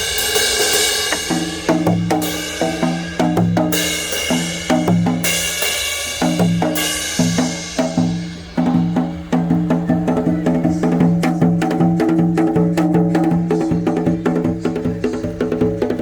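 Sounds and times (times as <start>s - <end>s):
hourglass drum played with sticks: 0.0s - 16.0s.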